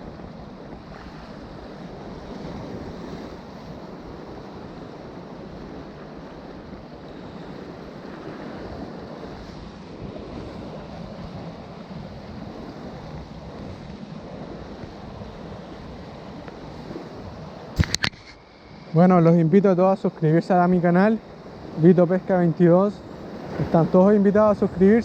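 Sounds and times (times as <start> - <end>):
sea surf washing: 0.0 - 25.0
wind rumbling on microphone: 0.0 - 25.0.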